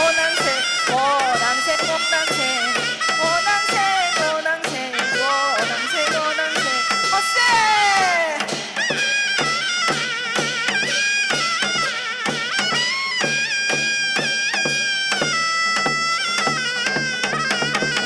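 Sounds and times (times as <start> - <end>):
reedy wind instrument melody: 0.0 - 18.0
steady drum beat: 0.0 - 18.0.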